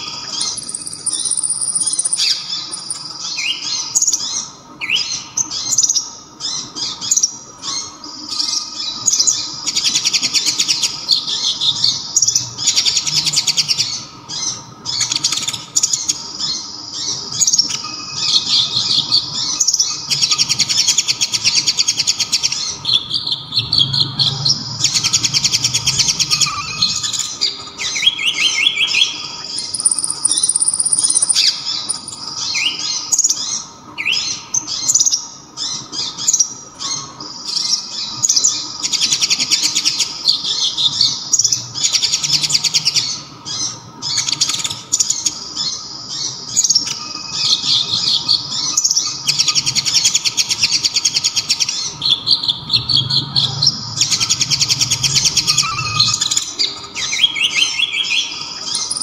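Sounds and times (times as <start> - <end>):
songbird trilling song: 0.0 - 59.0.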